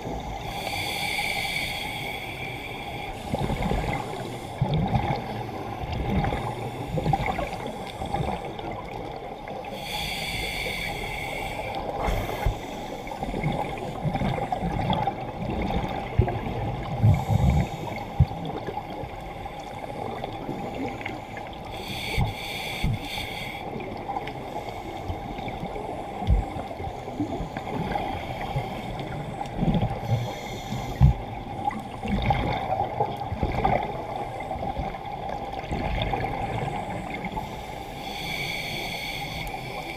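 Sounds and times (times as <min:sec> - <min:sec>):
underwater water rumble: 0:00.0 - 0:39.9.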